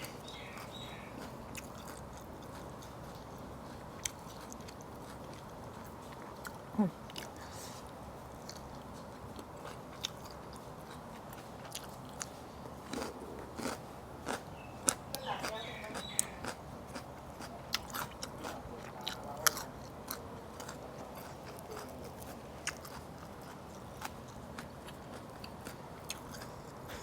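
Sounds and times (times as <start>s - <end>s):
person chewing crunchy vegetables: 0.0s - 27.0s.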